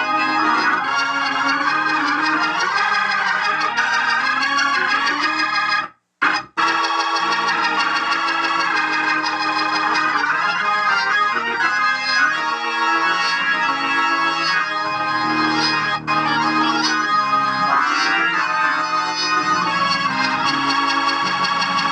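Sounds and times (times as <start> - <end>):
organ playing sustained chords: 0.0 - 21.9.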